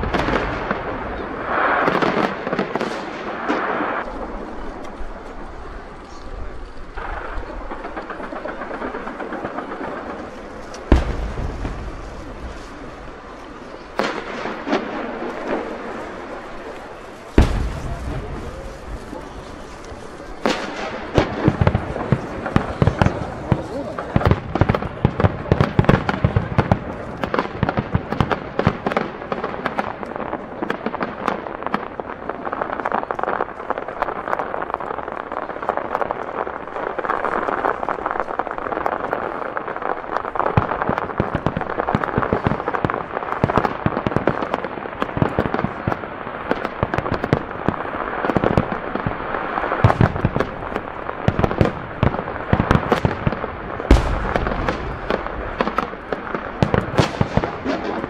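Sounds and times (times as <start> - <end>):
deep firework booms: 0.0 - 58.0
firework bursts crackling: 0.0 - 58.0.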